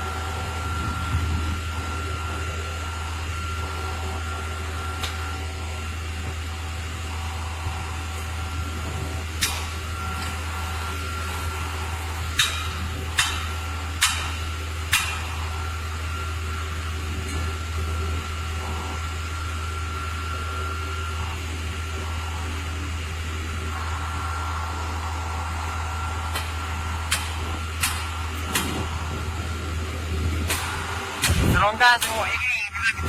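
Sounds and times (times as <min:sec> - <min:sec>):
diesel engine humming: 0:00.0 - 0:33.0.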